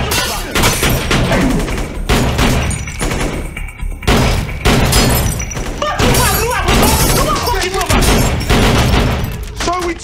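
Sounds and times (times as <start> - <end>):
rapid gunfire: 0.0 - 9.4
action score music: 0.0 - 10.0.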